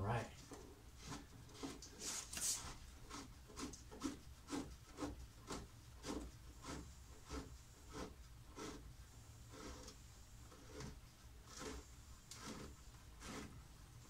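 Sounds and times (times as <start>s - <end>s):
plastic cap rubbing and scraping: 0.4s - 14.0s.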